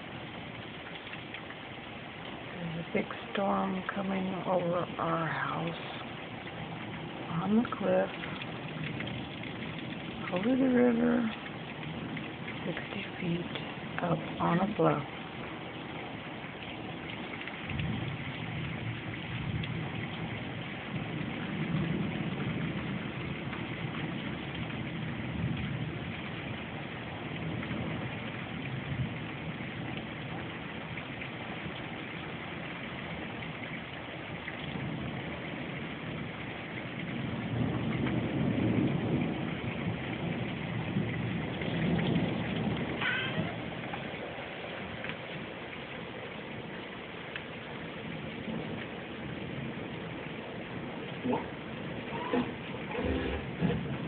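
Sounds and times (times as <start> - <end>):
steady rain: 0.0 - 54.0
low rolling thunder: 4.9 - 12.8, 13.4 - 54.0.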